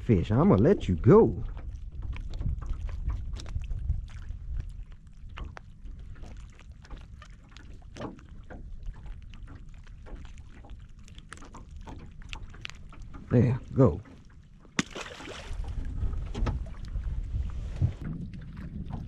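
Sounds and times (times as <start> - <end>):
wind rumble on microphone: 0.0 - 14.1, 15.3 - 19.0.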